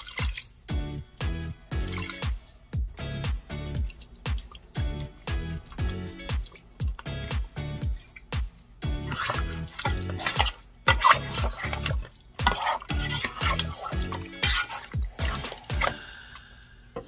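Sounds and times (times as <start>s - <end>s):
spatula stirring meat in pot: 0.0s - 16.0s
background music with steady beat: 0.0s - 17.0s.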